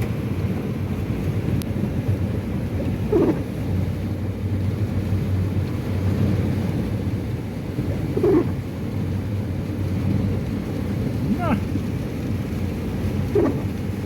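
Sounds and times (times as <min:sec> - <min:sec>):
bus engine humming: 0:00.0 - 0:14.0.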